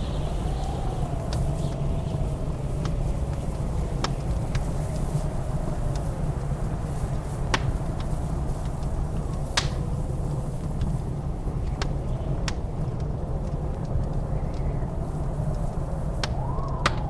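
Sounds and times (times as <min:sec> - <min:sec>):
blizzard wind with whistle: 0:00.0 - 0:17.0
wood fire crackling and popping: 0:00.0 - 0:17.0.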